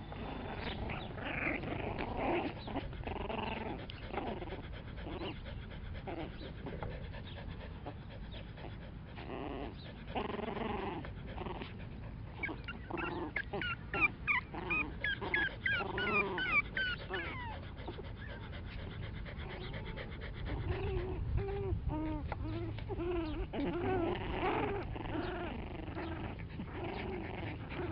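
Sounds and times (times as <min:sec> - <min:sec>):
puppies yipping and squeaking: 0:00.0 - 0:08.0, 0:09.4 - 0:27.9
puppies growling: 0:00.0 - 0:27.9.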